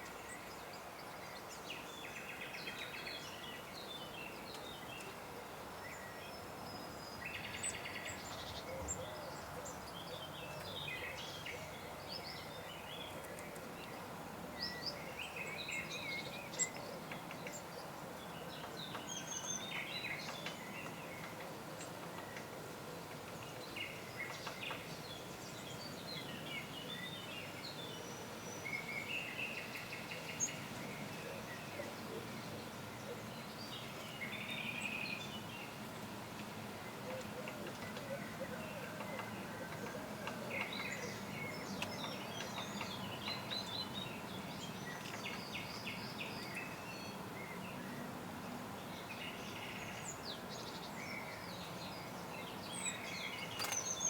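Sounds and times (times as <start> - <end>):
songbirds singing and calling: 0.0 - 54.0.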